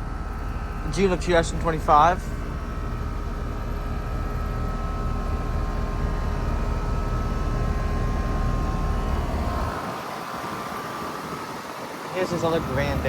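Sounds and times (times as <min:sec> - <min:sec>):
air conditioner unit humming: 0:00.0 - 0:13.0
faint constant whine: 0:00.0 - 0:13.0.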